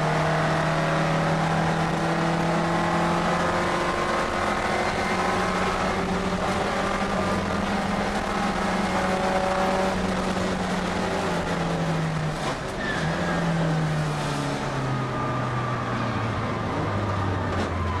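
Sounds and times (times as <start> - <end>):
racing car engine from inside: 0.0 - 18.0.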